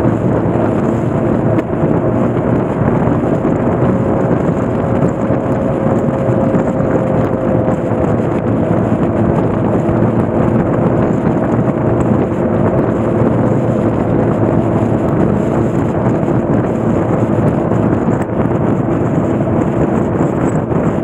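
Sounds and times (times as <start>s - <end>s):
motorcycle engine humming: 0.0s - 21.0s
wind rushing over microphone: 0.0s - 21.0s.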